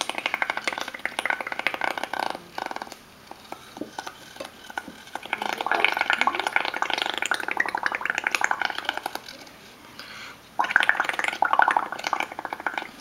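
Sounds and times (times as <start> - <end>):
bubbling gurgle through straw: 0.0 - 9.5, 10.6 - 13.0.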